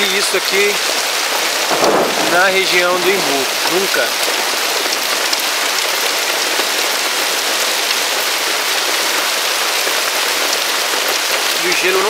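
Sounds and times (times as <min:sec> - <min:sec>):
hailstones pelting down: 0:00.0 - 0:12.0.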